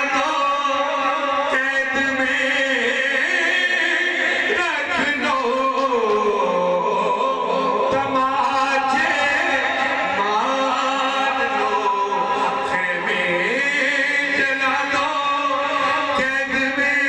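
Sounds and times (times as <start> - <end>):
man singing through loudspeaker: 0.0 - 17.0.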